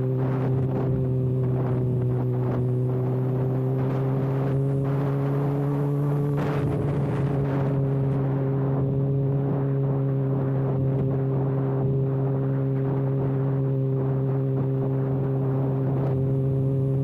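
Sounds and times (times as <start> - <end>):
unmuffled motorcycle engine drone: 0.0 - 17.0.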